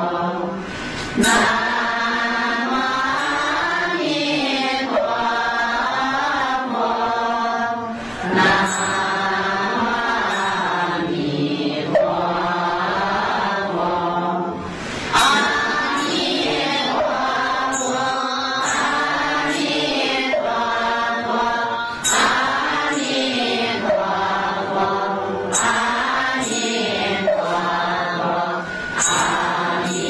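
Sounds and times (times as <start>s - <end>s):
person chanting melodically: 0.0s - 30.0s.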